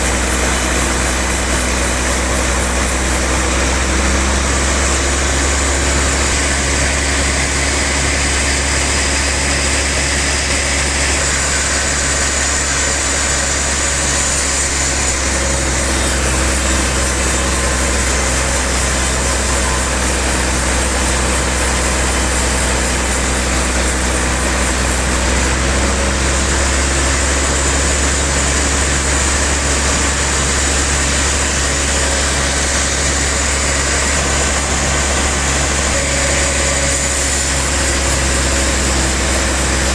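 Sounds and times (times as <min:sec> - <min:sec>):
band saw machinery running: 0:00.0 - 0:39.9.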